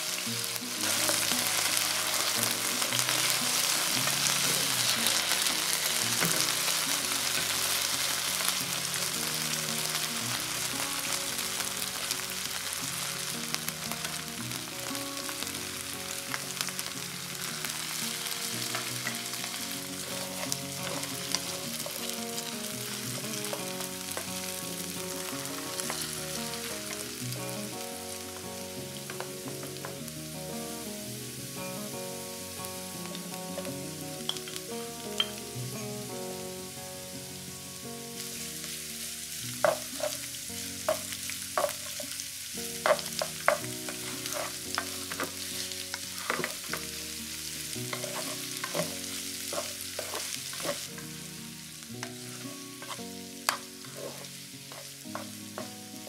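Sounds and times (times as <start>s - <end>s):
potatoes sizzling in a pan: 0.0s - 56.0s.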